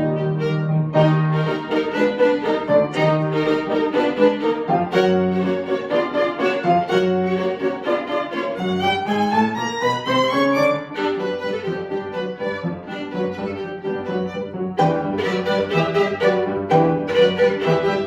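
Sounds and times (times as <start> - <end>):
violin playing fast notes: 0.0 - 18.0.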